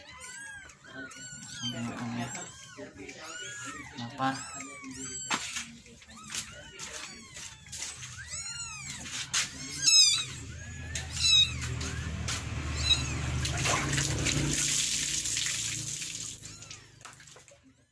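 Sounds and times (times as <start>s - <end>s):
kittens mewing: 0.0s - 17.9s.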